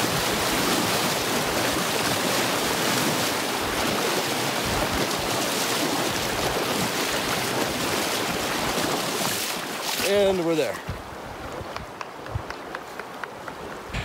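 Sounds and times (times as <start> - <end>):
fast creek water rushing: 0.0 - 14.0.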